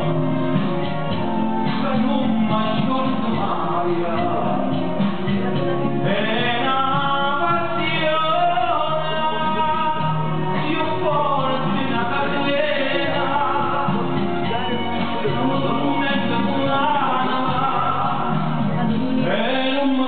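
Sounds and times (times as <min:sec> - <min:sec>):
instrumental accompaniment: 0:00.0 - 0:20.0
man singing into a microphone: 0:01.3 - 0:20.0.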